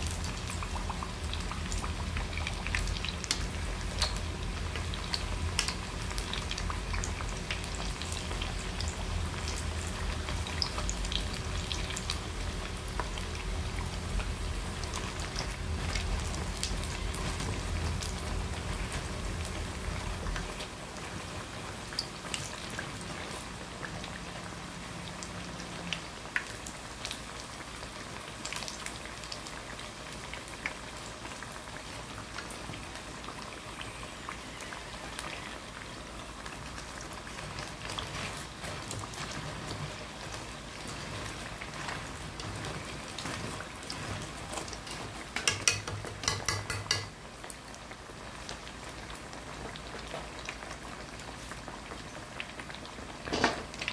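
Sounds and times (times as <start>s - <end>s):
deep-frying sizzle: 0.0s - 53.9s.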